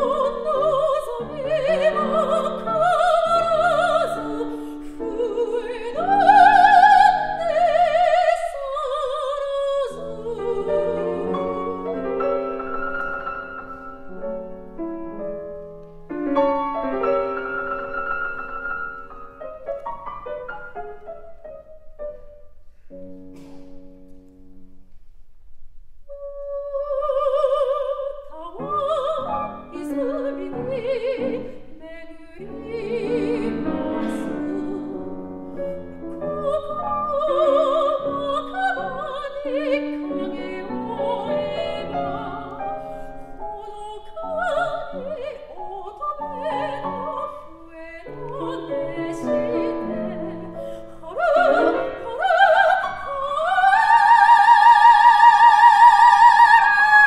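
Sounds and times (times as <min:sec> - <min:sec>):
soprano singing: 0:00.0 - 0:23.2, 0:26.1 - 0:57.0
piano chords: 0:00.0 - 0:24.9, 0:26.1 - 0:57.0.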